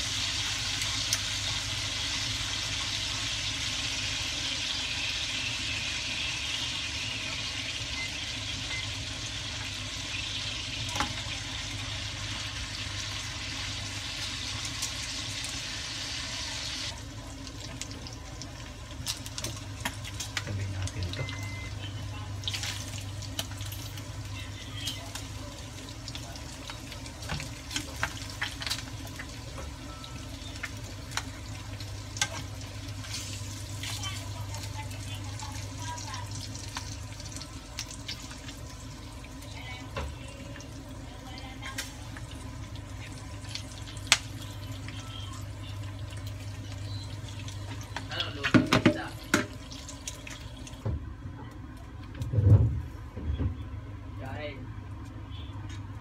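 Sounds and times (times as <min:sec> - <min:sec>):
oil crackling and popping: 0:00.0 - 0:07.2, 0:09.5 - 0:29.7, 0:30.4 - 0:40.8, 0:41.4 - 0:50.8
meat sizzling in oil: 0:00.0 - 0:50.8
low steady hum: 0:00.0 - 0:56.0.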